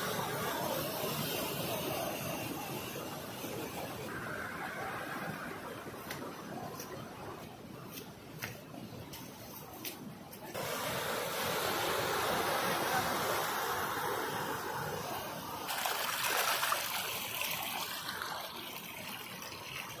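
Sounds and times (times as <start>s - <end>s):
rushing water: 0.0s - 8.4s, 10.5s - 20.0s.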